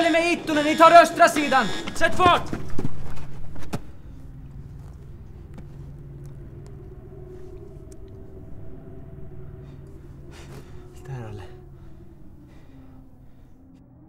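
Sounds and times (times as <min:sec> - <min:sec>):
distant propeller aircraft drone: 0:00.0 - 0:14.0.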